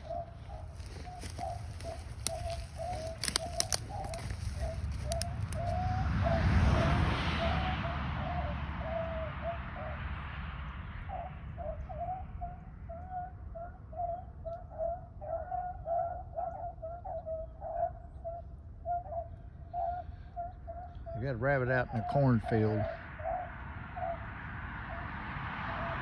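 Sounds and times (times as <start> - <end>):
hounds baying: 0.0 - 10.2, 11.0 - 26.0.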